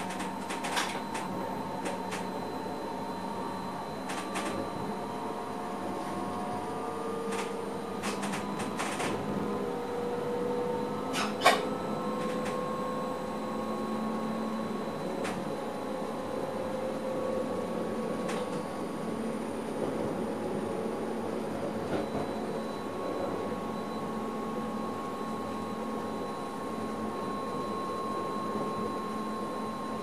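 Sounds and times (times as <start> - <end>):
electric train running: 0.0 - 30.0.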